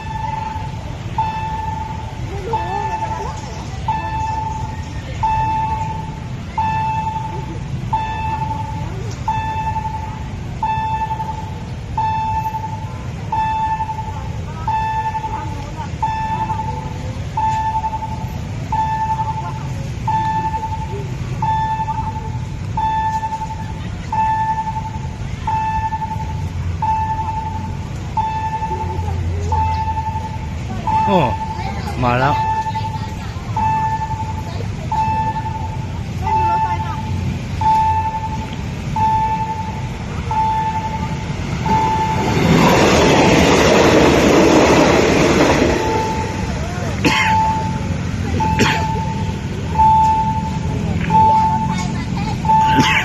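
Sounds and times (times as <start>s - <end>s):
level crossing alarm tone: 0.0s - 53.0s
train passing with rumble: 0.0s - 53.0s.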